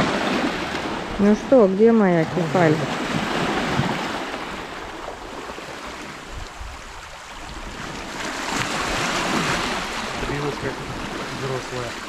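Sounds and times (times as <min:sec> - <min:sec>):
waves washing over rocks: 0:00.0 - 0:12.0.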